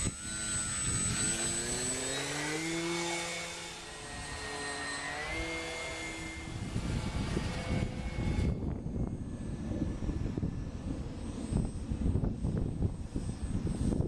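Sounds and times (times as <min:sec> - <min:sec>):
model airplane motor whining: 0:00.0 - 0:14.0
wind rumble on microphone: 0:00.0 - 0:14.0.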